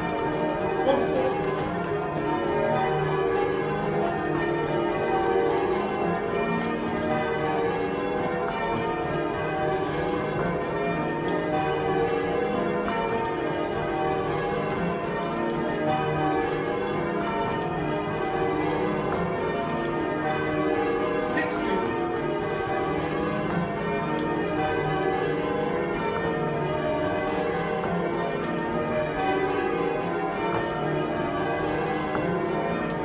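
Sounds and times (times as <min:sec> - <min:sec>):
church bells ringing: 0:00.0 - 0:33.0.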